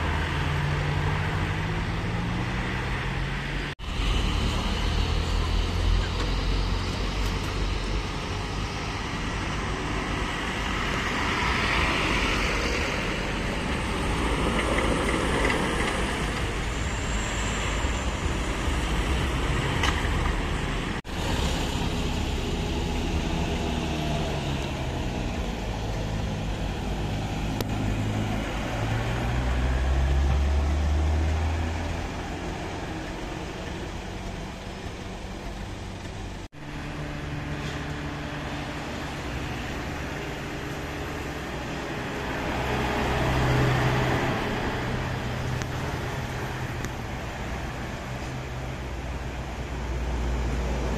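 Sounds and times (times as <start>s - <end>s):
road traffic passing: 0.0s - 50.9s.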